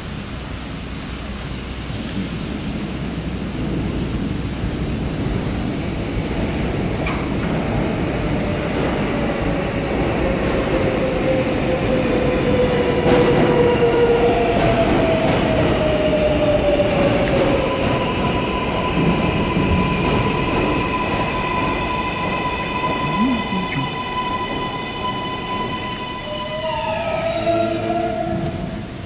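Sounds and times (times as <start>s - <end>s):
train wheels rumbling on rails: 0.0s - 29.0s
train whine: 0.0s - 29.0s.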